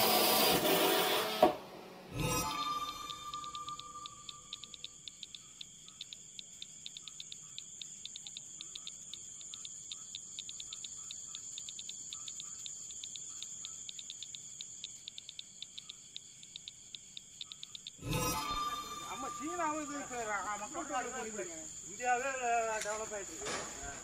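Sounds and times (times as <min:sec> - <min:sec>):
insects chirping: 0:02.2 - 0:24.0.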